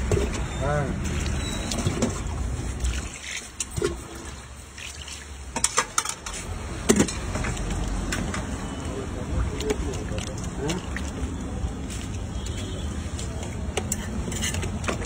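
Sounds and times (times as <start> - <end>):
liquid pouring and splashing: 0.0 - 12.3.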